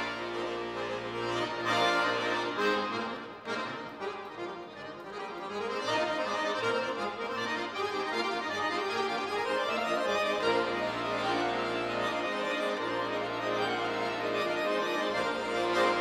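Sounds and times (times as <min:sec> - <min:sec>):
button accordion playing classical music: 0:00.0 - 0:16.0.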